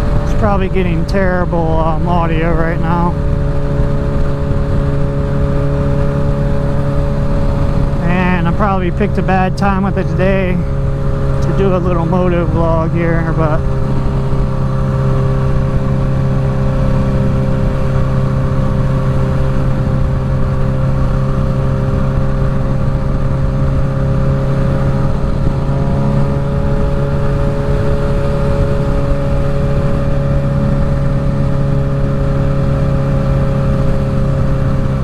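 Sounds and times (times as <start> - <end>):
motorcycle engine cruising: 0.0 - 35.0
wind rumble: 0.0 - 35.0.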